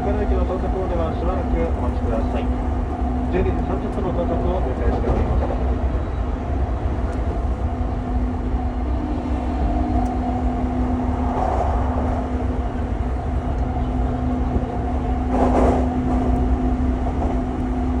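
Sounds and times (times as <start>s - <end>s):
electric train rumble: 0.0s - 18.0s
loud rush of train: 0.0s - 18.0s
train motor hum: 0.0s - 18.0s.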